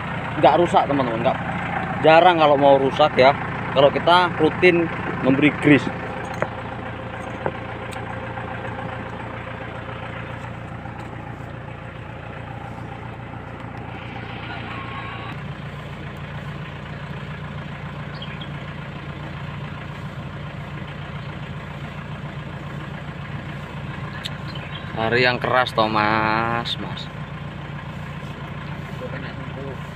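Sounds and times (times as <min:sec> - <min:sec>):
tractor engine idling: 0:00.0 - 0:29.9.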